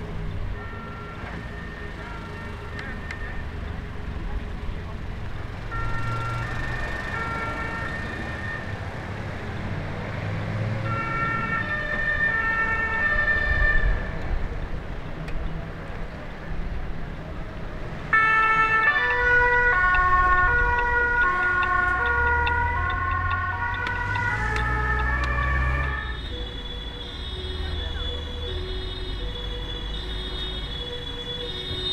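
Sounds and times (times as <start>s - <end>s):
diesel engine rumbling: 0.0s - 31.9s
two-tone emergency sirens: 0.4s - 3.6s, 5.6s - 14.3s, 18.0s - 31.9s.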